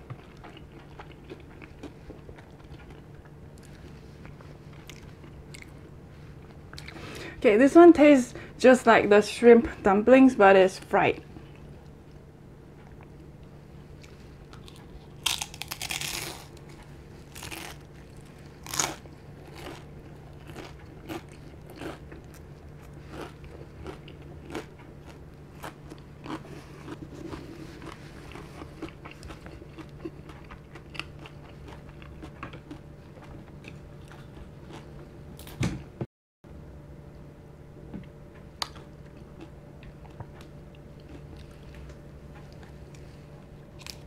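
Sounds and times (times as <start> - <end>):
crunchy chewing: 0.0 - 7.2, 11.3 - 35.5, 38.6 - 44.0
low hum: 0.0 - 44.0.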